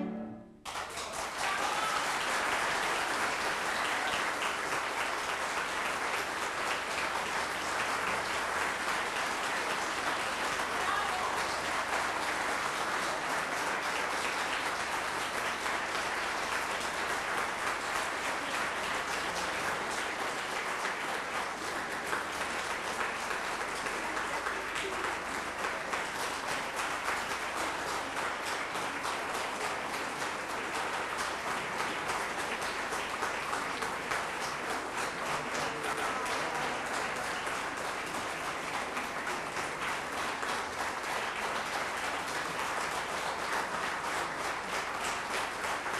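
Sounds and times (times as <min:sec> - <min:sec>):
audience applauding: 0:00.0 - 0:45.9.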